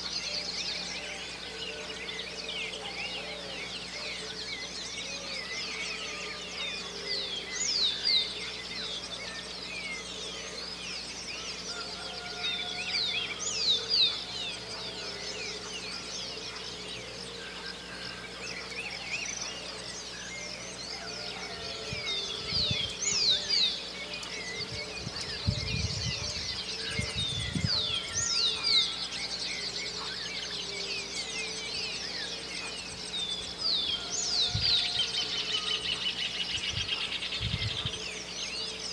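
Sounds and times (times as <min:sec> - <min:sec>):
dawn chorus of songbirds: 0:00.0 - 0:38.9.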